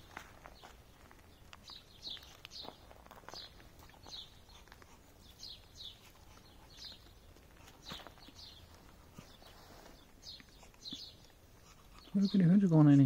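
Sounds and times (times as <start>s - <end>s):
bird chirping faintly: 0.0s - 13.0s.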